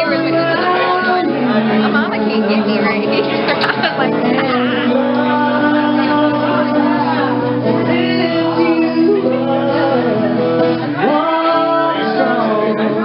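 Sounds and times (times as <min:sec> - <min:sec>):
acoustic guitar: 0:00.0 - 0:13.0
person singing country song: 0:00.0 - 0:13.0.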